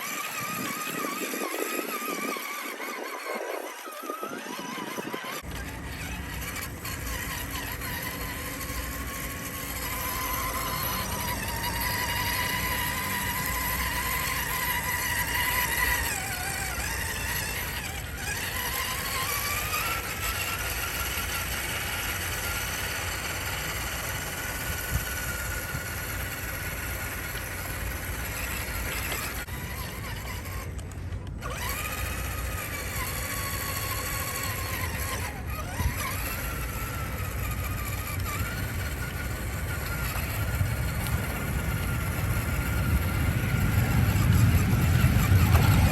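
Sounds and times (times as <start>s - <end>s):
rc truck motor whining: 0.0s - 45.9s
low steady rumble: 5.4s - 45.9s.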